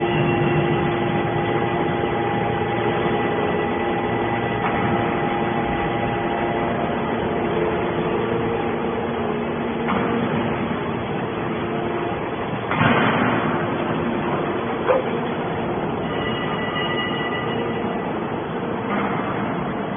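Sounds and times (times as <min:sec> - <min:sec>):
hydraulic motor and pump humming: 0:00.0 - 0:19.9.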